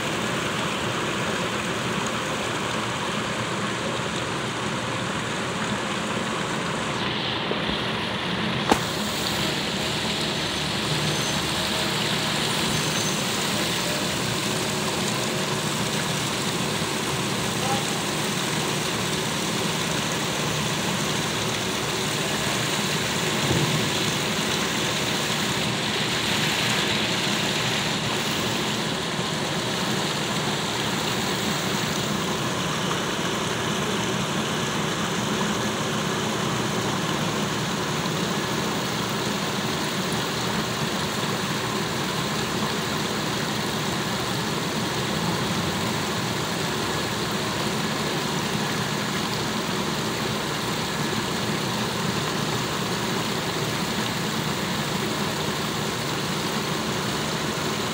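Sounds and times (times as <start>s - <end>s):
fountain water splashing into pool: 0.0s - 57.9s.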